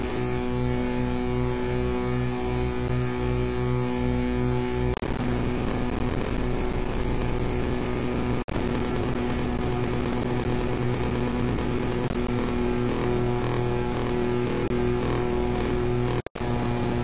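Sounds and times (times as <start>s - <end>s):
buzzing drone of held tones: 0.0s - 17.0s.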